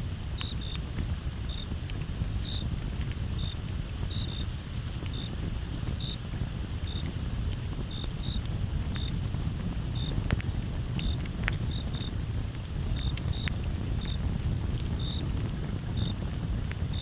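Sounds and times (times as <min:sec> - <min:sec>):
campfire crackling and popping: 0:00.0 - 0:17.0
crickets chirping: 0:00.0 - 0:17.0.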